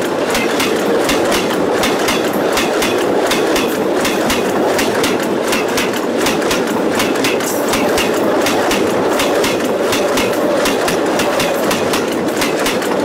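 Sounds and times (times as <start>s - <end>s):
train wheels rumbling overhead: 0.0s - 13.0s
wheels clacking over rail joint: 0.0s - 13.0s.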